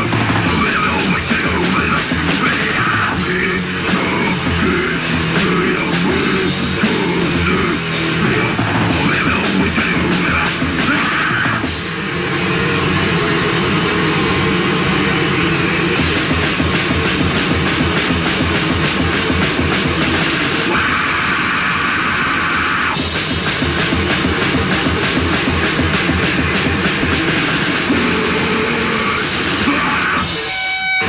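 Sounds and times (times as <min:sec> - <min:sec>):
distorted heavy rock music: 0:00.0 - 0:31.0.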